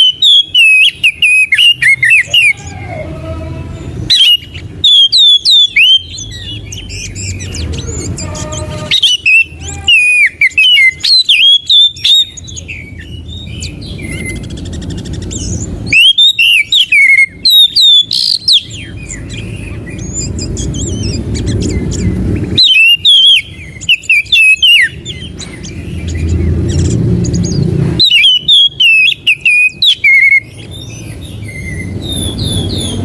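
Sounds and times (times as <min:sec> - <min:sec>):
bird singing whistled phrases: 0:00.0 - 0:02.7, 0:04.1 - 0:25.3, 0:28.0 - 0:33.0.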